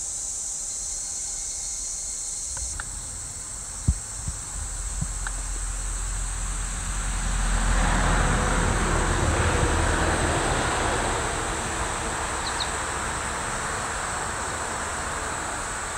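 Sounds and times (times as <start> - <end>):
high hiss: 0.0 - 15.9
passing vehicle rumbling: 2.7 - 15.9.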